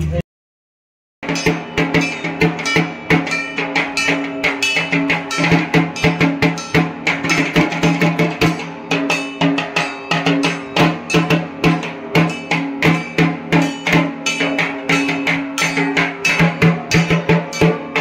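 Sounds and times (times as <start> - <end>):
barrel drum beaten with sticks: 1.2 - 18.0
sustained ringing tone: 1.2 - 18.0.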